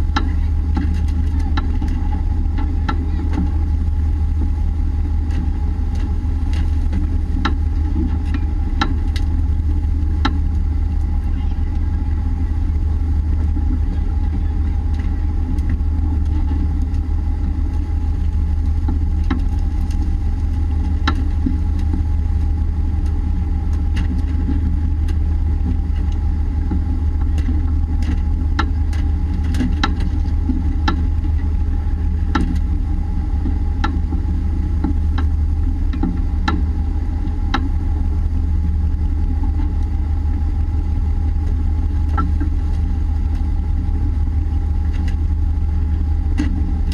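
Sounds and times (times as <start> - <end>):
boat machinery droning: 0.0 - 46.9
faint steady whine: 0.0 - 46.9.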